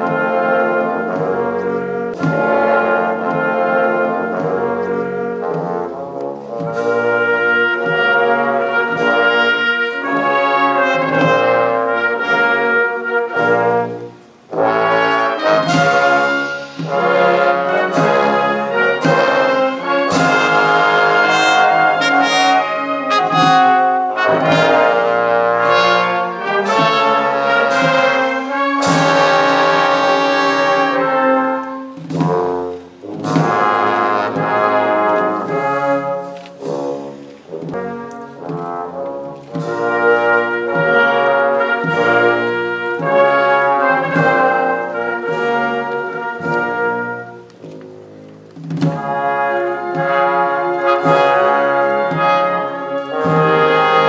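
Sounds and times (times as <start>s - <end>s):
brass band playing held chords: 0.0s - 54.0s.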